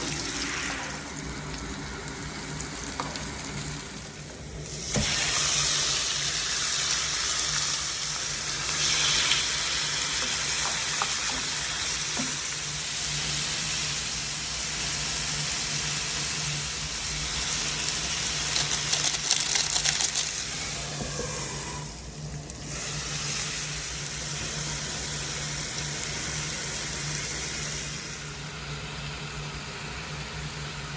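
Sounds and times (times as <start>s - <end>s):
food sizzling in a pan: 0.0s - 30.9s.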